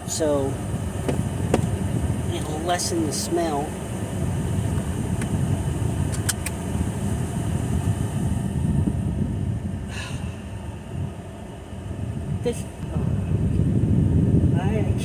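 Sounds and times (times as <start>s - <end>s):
car air conditioning rushing: 0.0s - 15.0s.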